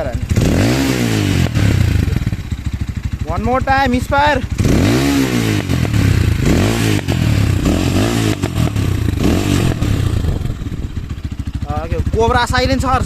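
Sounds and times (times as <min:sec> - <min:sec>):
exhaust popping misfires: 0:00.0 - 0:13.0
motorcycle engine revving: 0:00.0 - 0:13.0.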